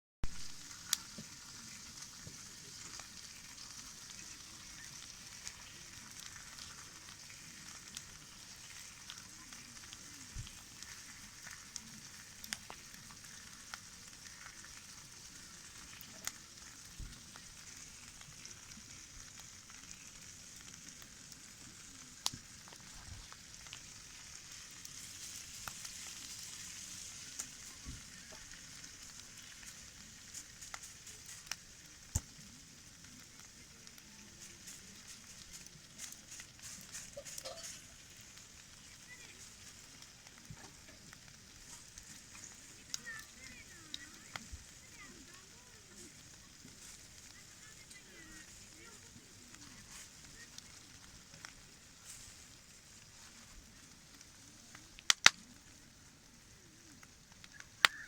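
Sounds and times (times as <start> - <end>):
burning wood popping and crackling: 0.2 - 58.0
campfire hissing: 0.2 - 58.0.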